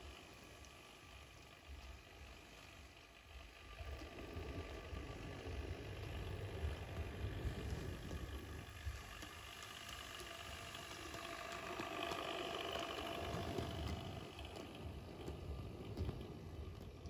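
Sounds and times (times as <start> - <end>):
model train motor whirring: 0.0 - 17.0
wheels ticking on track: 0.0 - 17.0.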